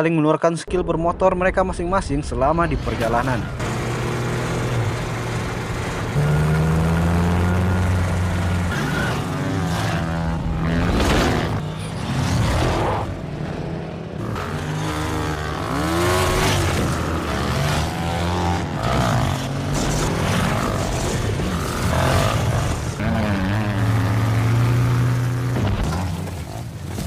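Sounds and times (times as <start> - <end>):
dirt bike engines revving: 2.8 - 26.6.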